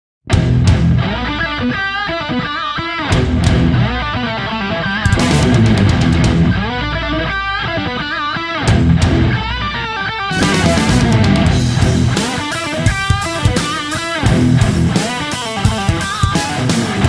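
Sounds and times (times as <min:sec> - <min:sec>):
electric guitar lead: 0:00.3 - 0:17.0
heavy metal band playing: 0:00.3 - 0:17.0.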